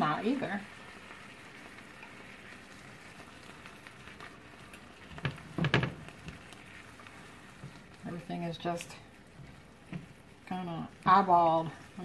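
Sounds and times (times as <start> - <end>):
vegetables sizzling in a skillet: 0.0 - 12.0.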